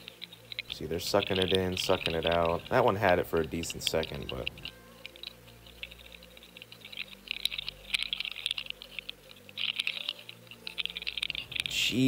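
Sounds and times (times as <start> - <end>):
underwater crackling and clicking: 0.0 - 11.8.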